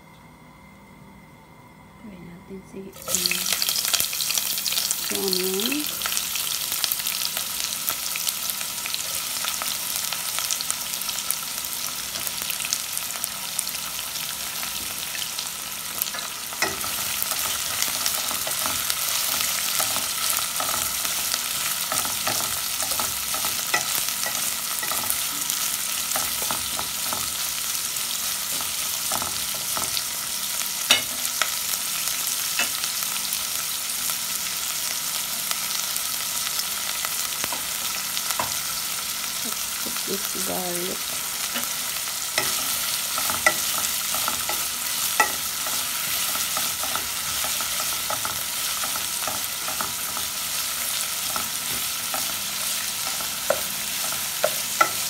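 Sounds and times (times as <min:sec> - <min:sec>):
onions sizzling in oil: 0:02.9 - 0:55.0.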